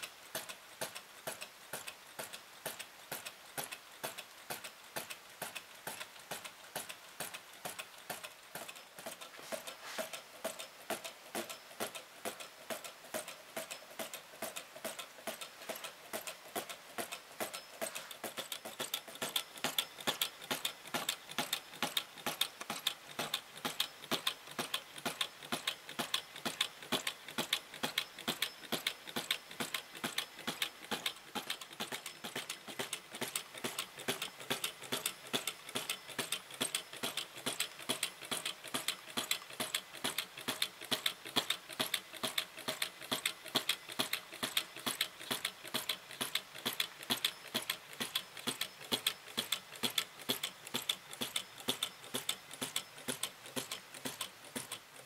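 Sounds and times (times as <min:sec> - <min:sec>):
engine mechanism clicking: 0:00.0 - 0:55.0
model engine running: 0:10.4 - 0:55.0.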